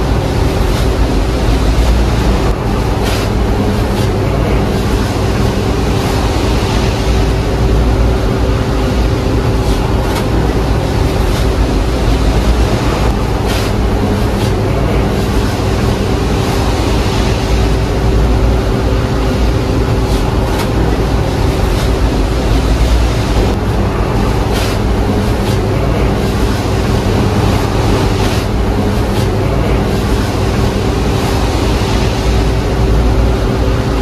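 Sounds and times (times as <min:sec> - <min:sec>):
loud mechanical rumble and hum: 0:00.0 - 0:34.0.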